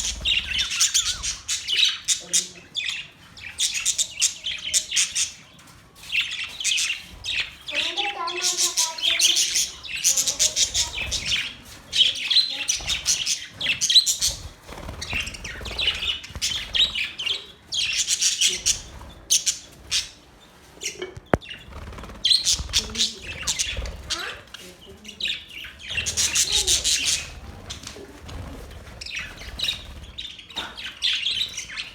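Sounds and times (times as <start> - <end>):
budgerigars chattering and warbling: 0.0 - 31.9.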